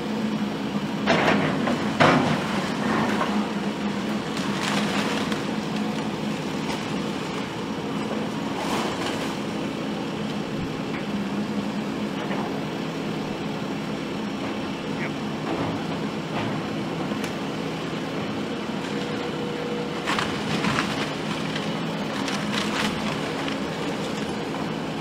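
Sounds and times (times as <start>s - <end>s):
demolition machine engine running: 0.0s - 25.0s.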